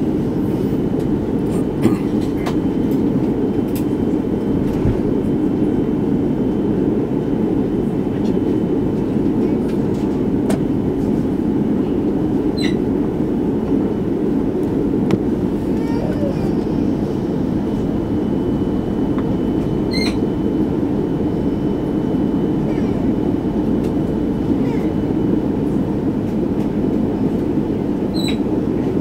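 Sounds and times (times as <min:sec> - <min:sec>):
airliner cabin rumble: 0:00.0 - 0:29.0.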